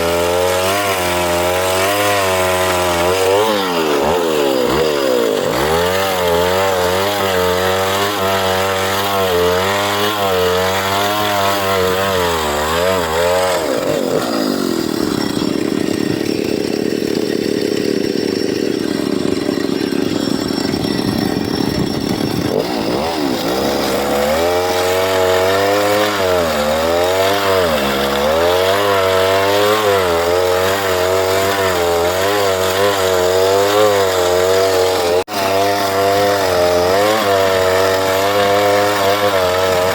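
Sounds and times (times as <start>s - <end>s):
chainsaw running at high speed: 0.0s - 39.9s.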